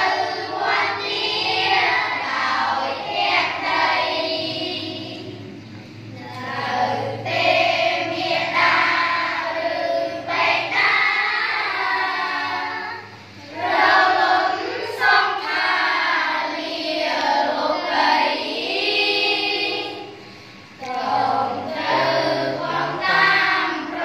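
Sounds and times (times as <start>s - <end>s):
children chanting in unison: 0.0s - 24.0s.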